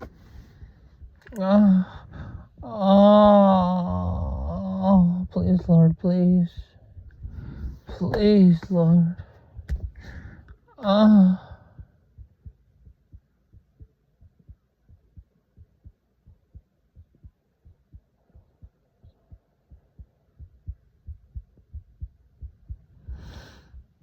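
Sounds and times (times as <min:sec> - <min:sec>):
soft low thumps: 0:00.0 - 0:24.0.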